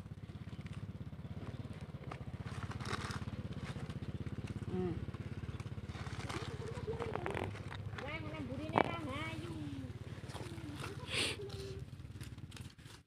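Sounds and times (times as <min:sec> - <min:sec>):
small engine running: 0:00.0 - 0:13.0
soil and leaves crumbling by hand: 0:00.3 - 0:13.0.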